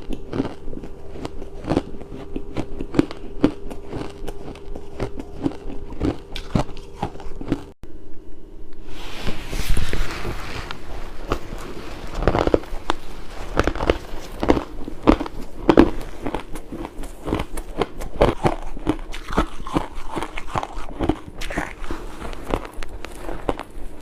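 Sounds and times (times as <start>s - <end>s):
ice crunching between teeth: 0.0s - 7.8s, 11.2s - 24.0s.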